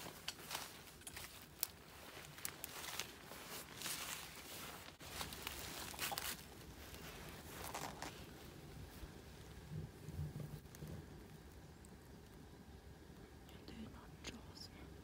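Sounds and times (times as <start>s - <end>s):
rustling and crunching of leaves: 0.0s - 12.4s.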